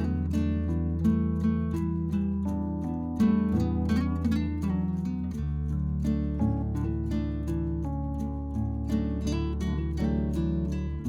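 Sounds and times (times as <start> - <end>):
plucked acoustic guitar chords: 0.0 - 11.0.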